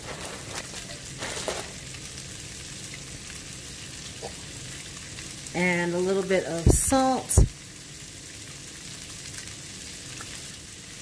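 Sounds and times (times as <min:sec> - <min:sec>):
vegetables sizzling in fat: 0:00.0 - 0:11.0.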